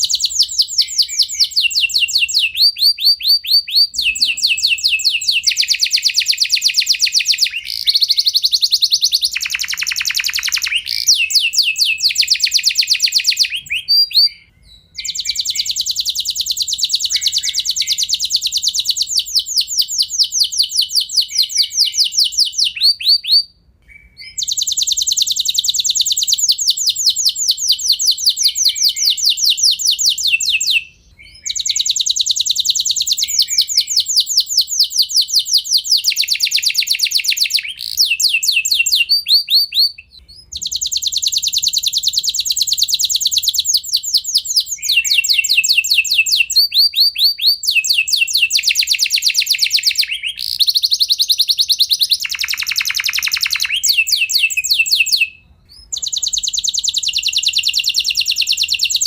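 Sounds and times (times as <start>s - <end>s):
canary trilling: 0.0s - 59.0s.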